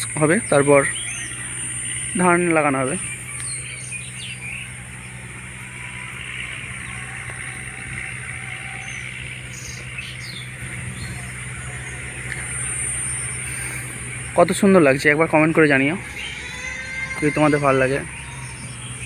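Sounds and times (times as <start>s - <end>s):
faint bird chirps: 0.0s - 19.0s
tractor engine drone: 0.0s - 19.0s.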